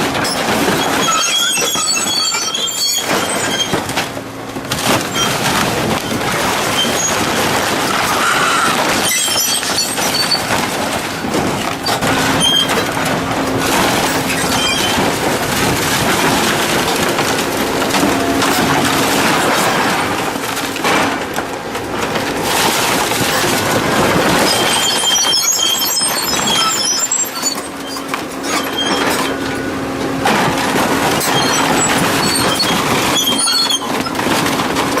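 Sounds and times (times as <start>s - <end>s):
metal shredder grinding scrap: 0.0s - 35.0s.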